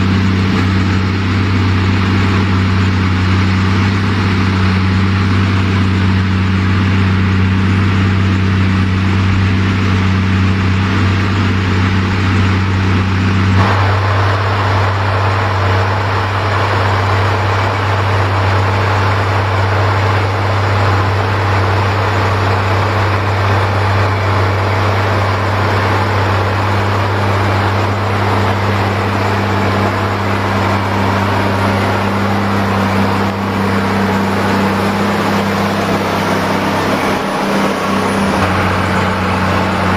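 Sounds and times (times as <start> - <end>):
harsh rough engine noise: 0.0 - 39.9
tractor diesel engine running: 0.0 - 39.9.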